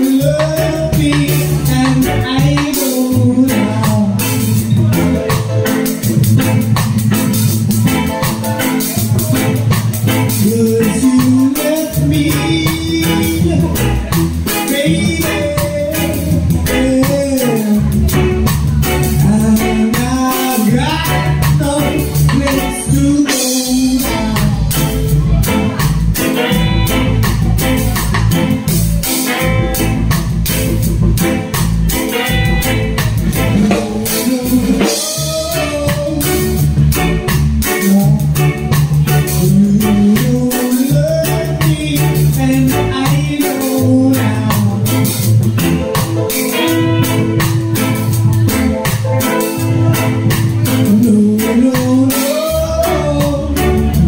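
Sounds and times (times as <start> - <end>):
drum kit with cymbals: 0.0 - 54.0
electric bass guitar: 0.0 - 54.0
keyboard melody: 0.0 - 54.0.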